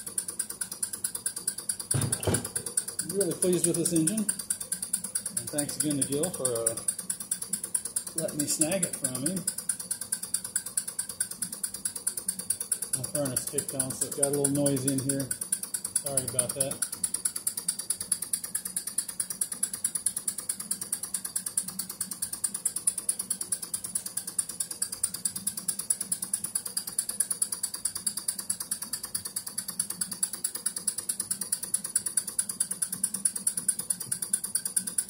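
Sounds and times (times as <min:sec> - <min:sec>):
model steam engine running: 0:00.0 - 0:35.0.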